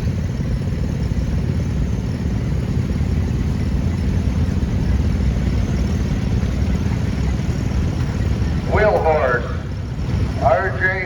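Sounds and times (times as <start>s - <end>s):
garden tractor engine running: 0.0s - 11.0s.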